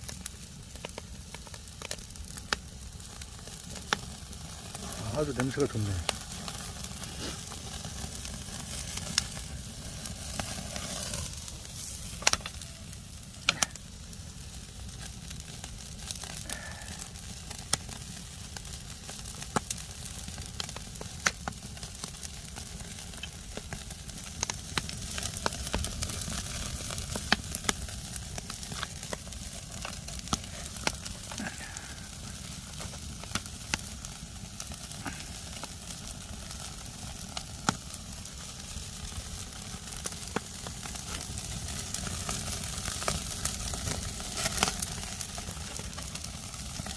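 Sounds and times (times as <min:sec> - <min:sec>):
fish sizzling on wood fire: 0:00.0 - 0:46.9
wood fire pops and crackles: 0:00.0 - 0:46.9.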